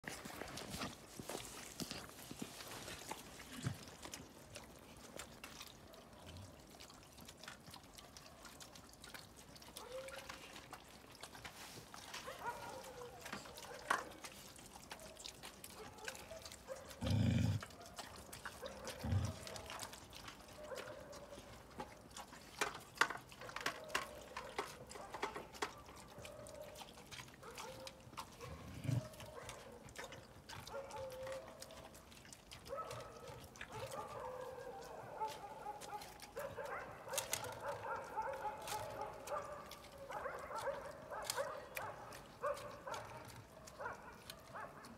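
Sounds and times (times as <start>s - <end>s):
dogs eating from dishes: 0.0s - 44.9s.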